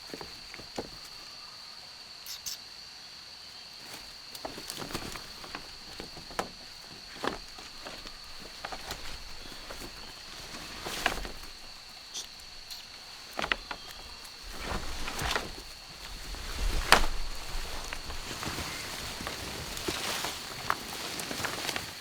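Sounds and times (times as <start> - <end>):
twigs and dry leaves snapping: 0.0 - 1.2, 3.8 - 22.0
leaves rustling: 0.0 - 1.5, 3.7 - 22.0.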